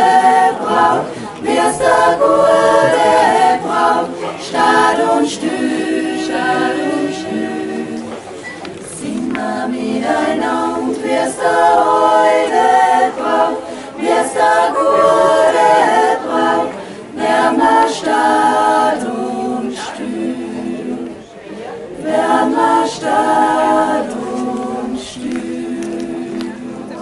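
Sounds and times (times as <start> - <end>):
women singing in harmony: 0.0 - 27.0.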